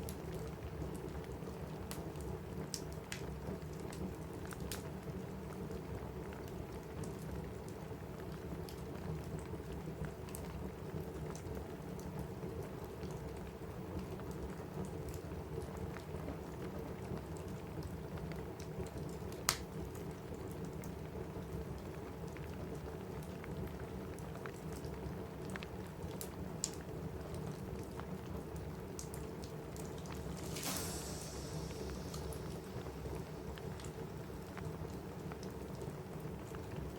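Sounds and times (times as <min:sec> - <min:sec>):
fireplace crackling and popping: 0:00.0 - 0:36.9
steady rain on a roof: 0:00.0 - 0:36.9.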